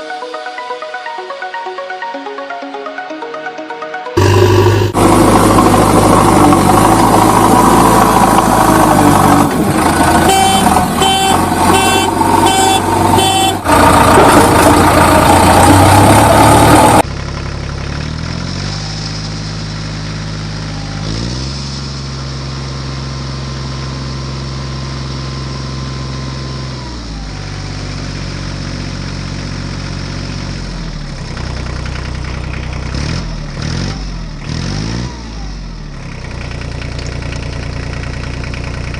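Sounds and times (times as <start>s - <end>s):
diesel engine running: 4.2s - 38.9s.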